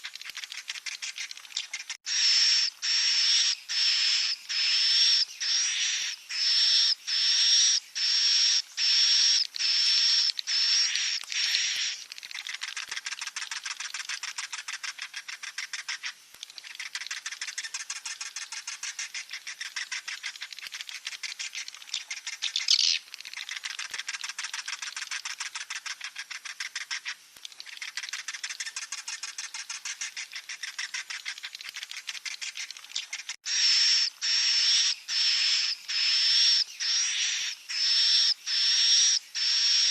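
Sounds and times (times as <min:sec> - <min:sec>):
fast buzzy clicking chatter: 0:00.0 - 0:38.7.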